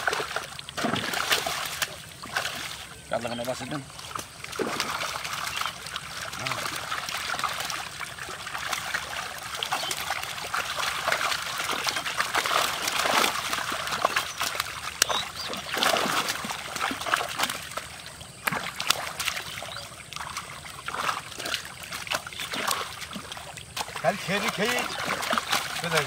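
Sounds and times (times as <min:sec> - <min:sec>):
fish flapping and splashing: 0:00.0 - 0:26.0
water splashing and trickling: 0:00.0 - 0:26.0.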